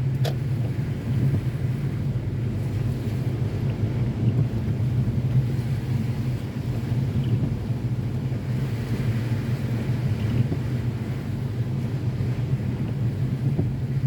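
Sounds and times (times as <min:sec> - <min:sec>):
car driving on wet road: 0:00.0 - 0:14.0.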